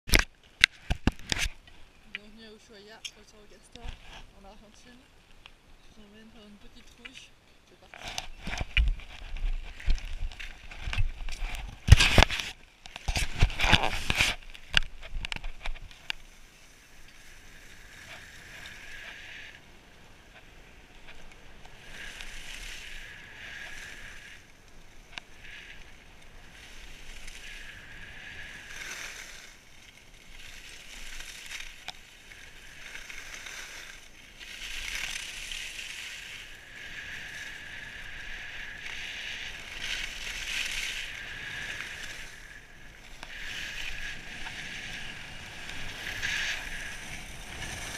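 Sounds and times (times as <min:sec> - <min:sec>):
skis scraping over snow: 0:07.8 - 0:47.9.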